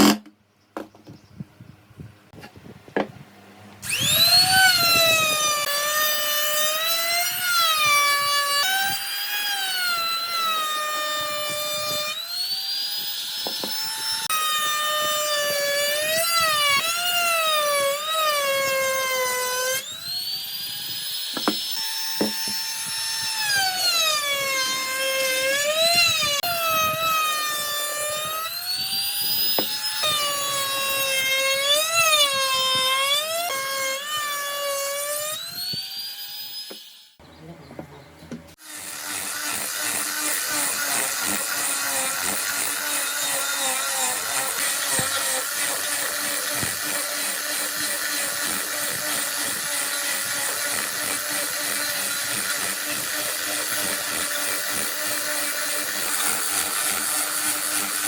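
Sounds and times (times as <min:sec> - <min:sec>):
power tool cutting wood: 0:00.0 - 0:00.2, 0:03.8 - 0:37.2, 0:38.5 - 0:58.0.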